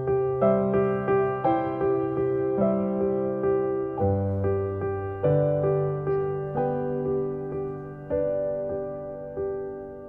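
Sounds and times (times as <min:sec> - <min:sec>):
slow soft piano music: 0:00.0 - 0:10.0.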